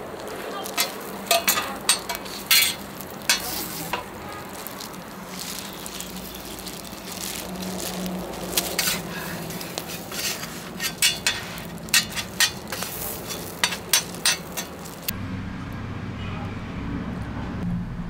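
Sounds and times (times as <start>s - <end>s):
food sizzling on a griddle: 0.0s - 15.1s
metal spatula scraping griddle: 0.6s - 15.1s.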